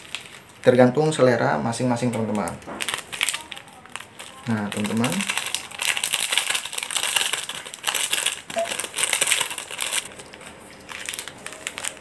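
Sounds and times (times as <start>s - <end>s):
plastic sachet crinkling: 0.0s - 12.0s.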